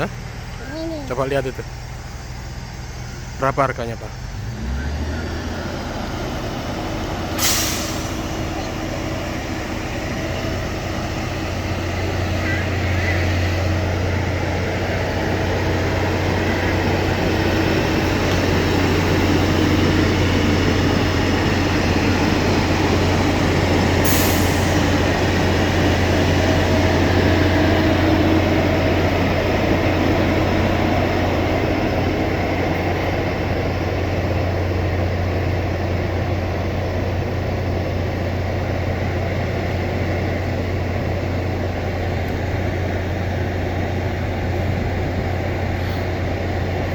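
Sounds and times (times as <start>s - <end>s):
low diesel engine drone: 0.0s - 46.9s
train running on rails: 0.0s - 46.9s.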